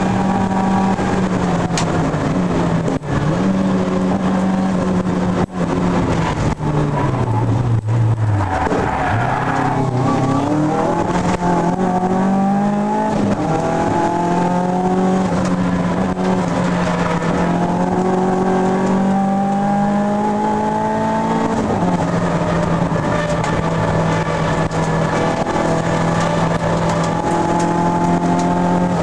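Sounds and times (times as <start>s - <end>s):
race car engine at full throttle: 0.0s - 29.0s.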